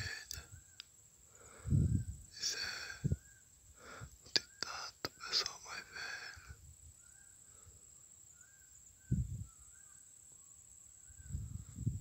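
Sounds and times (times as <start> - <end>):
bush ambience: 0.0 - 12.0.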